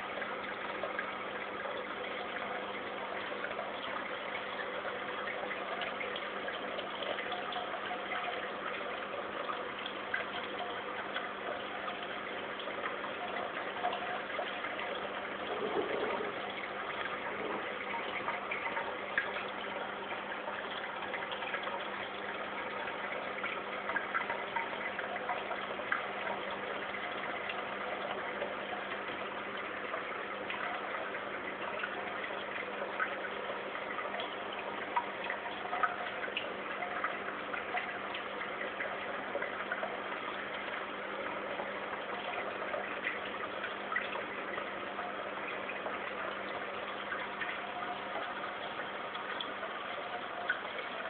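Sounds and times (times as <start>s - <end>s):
aquarium water trickling and bubbling: 0.0s - 51.0s
low steady hum: 0.0s - 51.0s.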